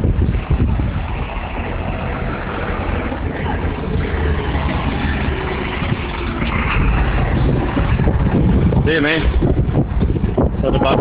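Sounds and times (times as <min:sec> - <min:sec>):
crane engine rumbling: 0:00.0 - 0:11.0.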